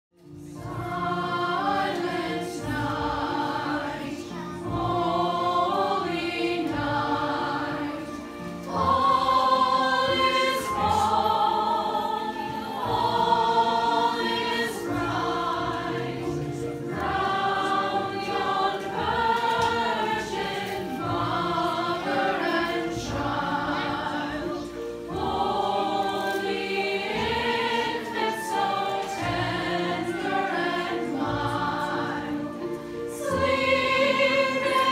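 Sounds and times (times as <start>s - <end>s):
choir singing: 0.3s - 34.9s.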